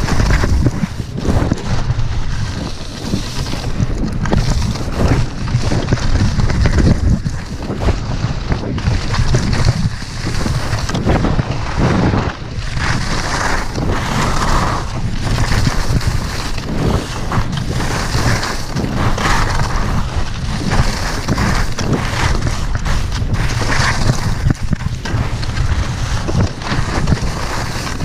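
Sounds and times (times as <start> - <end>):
skis scraping on packed snow: 0.0 - 28.0
wind buffeting microphone: 0.0 - 28.0.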